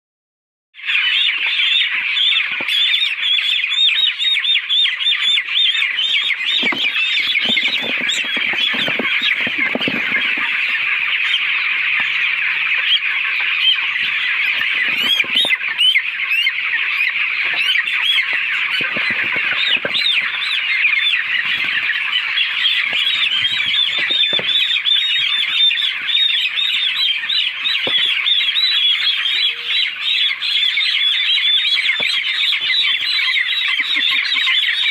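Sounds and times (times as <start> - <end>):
poultry flock calling: 0.8 - 34.9.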